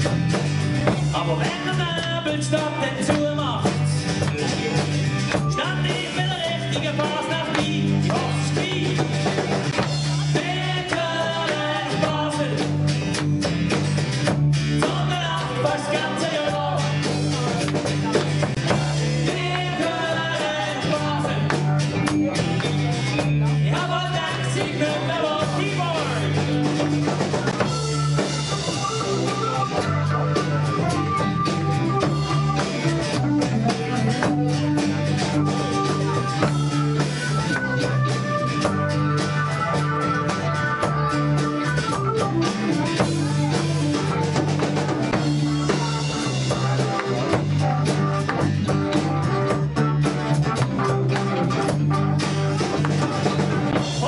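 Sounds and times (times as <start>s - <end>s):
drum kit beat: 0.0s - 54.0s
guitars and bass: 0.0s - 54.0s
person singing: 1.1s - 9.4s, 10.0s - 12.8s, 14.8s - 34.3s, 35.2s - 54.0s.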